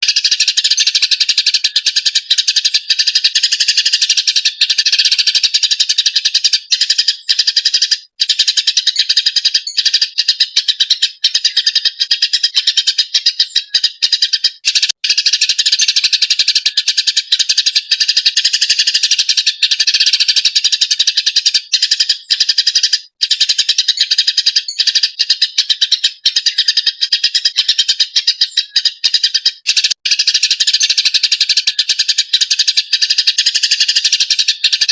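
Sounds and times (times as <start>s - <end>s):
sparrow chattering: 0.0s - 34.9s.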